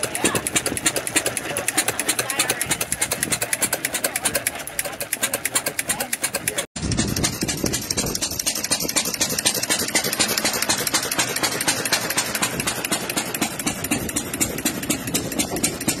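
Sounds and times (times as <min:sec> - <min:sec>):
engine mechanical clatter: 0:00.0 - 0:16.0.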